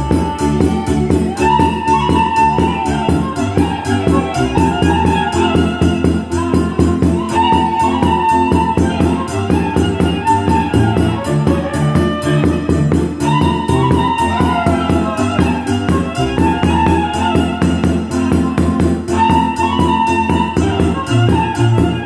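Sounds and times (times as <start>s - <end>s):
bass drum beat: 0.0s - 22.0s
low bass accompaniment: 0.0s - 22.0s
violin playing melody: 0.0s - 22.0s.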